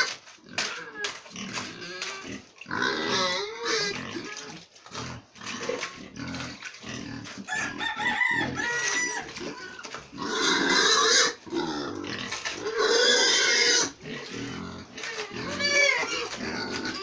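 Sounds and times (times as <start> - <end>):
pig squealing: 0.0 - 17.0
pigs grunting: 0.0 - 17.0.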